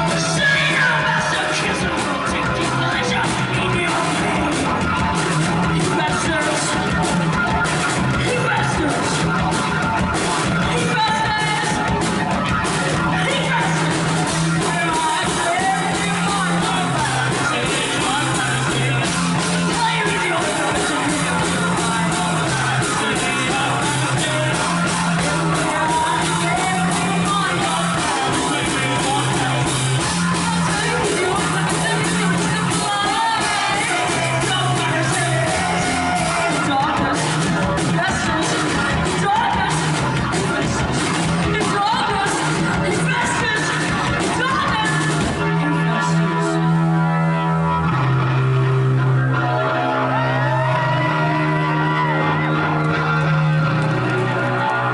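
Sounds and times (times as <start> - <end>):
person singing and yelling: 0.0 - 47.4
bass line: 0.0 - 54.9
rock band playing live: 0.0 - 54.9.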